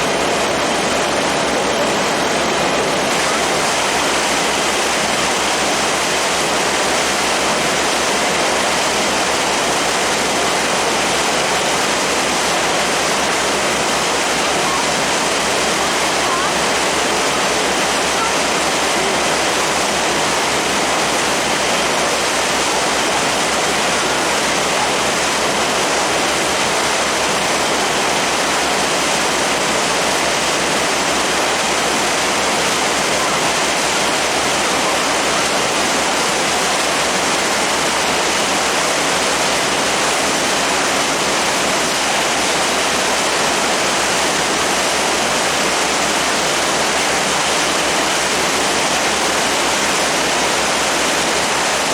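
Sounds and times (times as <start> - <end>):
water rushing past a boat: 0.0 - 51.9.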